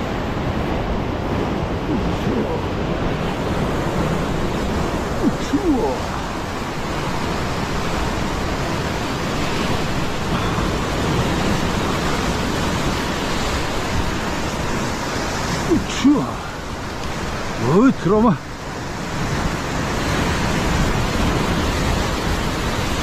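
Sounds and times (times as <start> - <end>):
surf breaking over rocks: 0.0 - 23.0.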